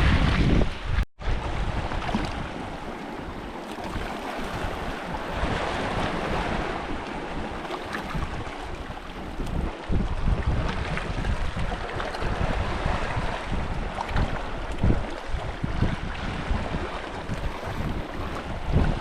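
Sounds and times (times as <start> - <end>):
sea waves washing against rocks: 0.0 - 19.0
wind buffeting microphone: 0.0 - 19.0.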